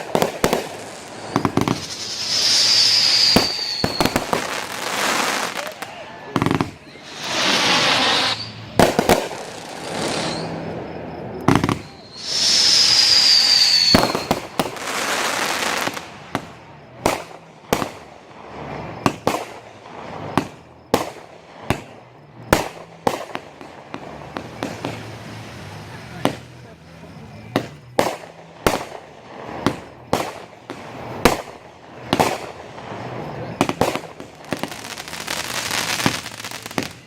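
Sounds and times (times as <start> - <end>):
falling firework whistle: 0.0 - 26.4, 29.6 - 37.0
fireworks crackling hiss: 0.0 - 37.0
fireworks sharp bangs: 0.0 - 37.0.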